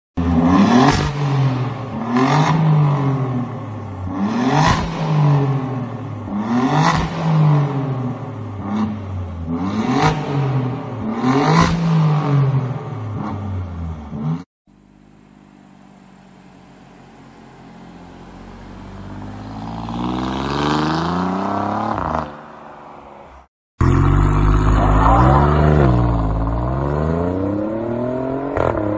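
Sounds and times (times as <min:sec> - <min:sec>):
car engine revving: 0:00.2 - 0:14.5, 0:16.1 - 0:22.5, 0:23.8 - 0:28.9
car accelerating along road: 0:00.2 - 0:28.9.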